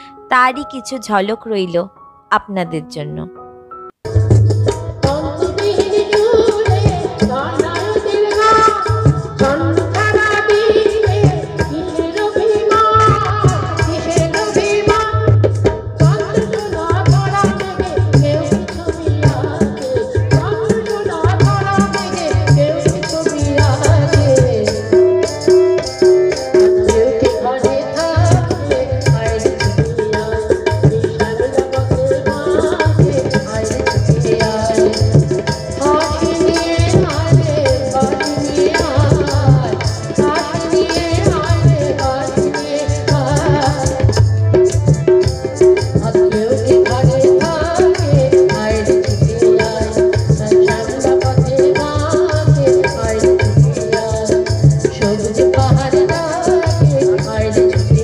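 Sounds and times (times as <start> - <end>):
tabla drum strokes: 4.1 - 58.0.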